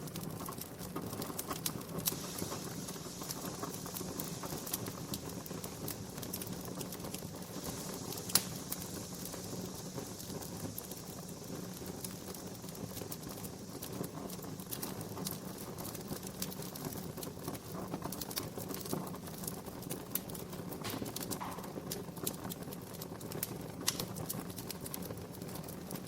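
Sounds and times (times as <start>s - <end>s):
fire pops and snaps: 0.0s - 26.0s
wood fire crackling: 0.0s - 26.0s.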